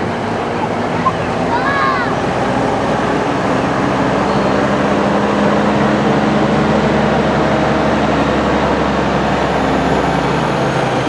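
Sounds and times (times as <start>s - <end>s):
large vehicle engine rumbling: 0.0s - 11.0s.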